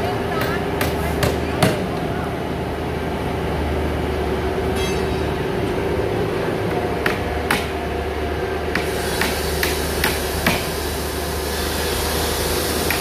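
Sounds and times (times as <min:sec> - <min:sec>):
factory mechanical hum: 0:00.0 - 0:13.0.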